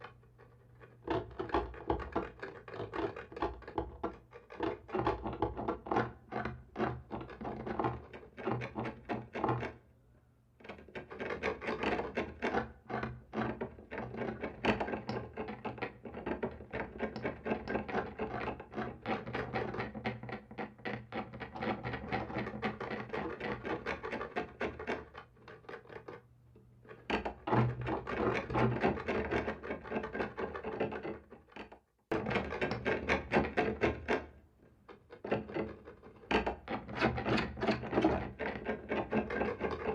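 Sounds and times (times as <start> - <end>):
scratching on a wall: 0.0 - 9.8, 10.6 - 39.9.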